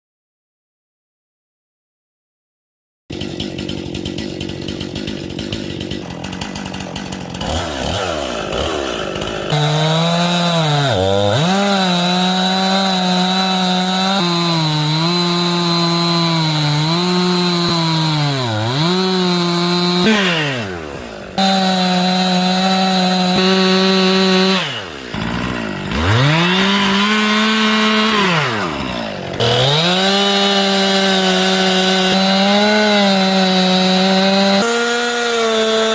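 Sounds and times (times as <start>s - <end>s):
chainsaw carving wood: 3.1s - 35.9s.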